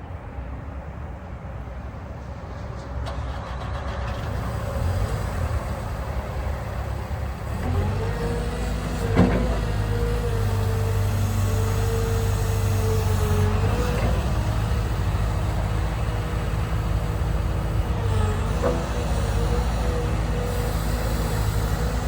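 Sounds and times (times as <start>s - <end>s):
excavator diesel engine running: 3.0s - 22.0s.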